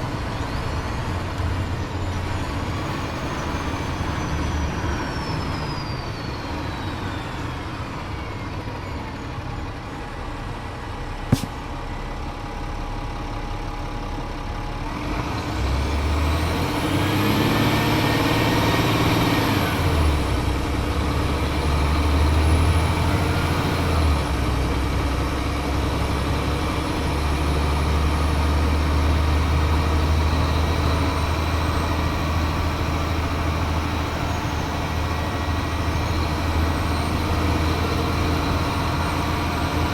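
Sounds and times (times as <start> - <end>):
bus engine whining: 0.0 - 39.9.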